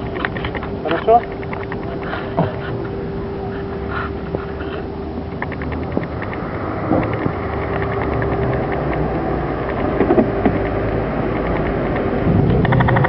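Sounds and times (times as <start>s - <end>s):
constant hum: 0.0s - 13.0s
rapid light ticking: 0.0s - 13.0s
vehicle rumble: 0.0s - 13.0s.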